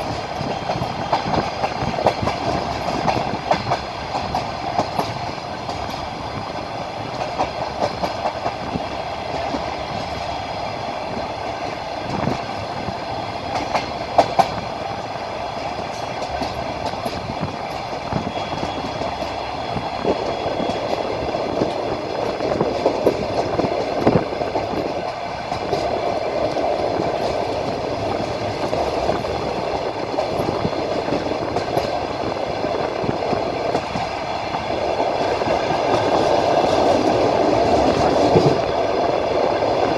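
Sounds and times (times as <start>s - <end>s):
train wheels clacking: 0.0s - 39.9s
train wheels rumbling on rail: 0.0s - 39.9s.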